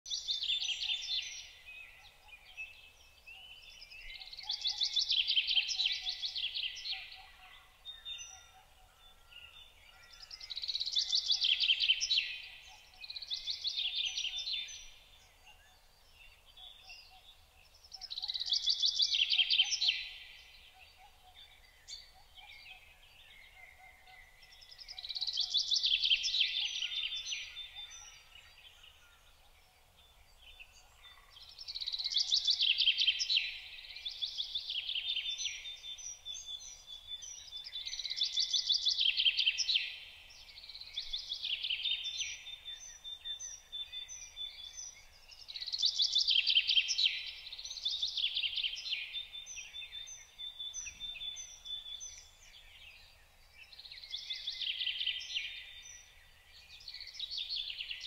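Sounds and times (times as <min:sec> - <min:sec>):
soft bird chirps: 0:00.0 - 0:58.0
songbird trilled song: 0:00.0 - 0:58.0.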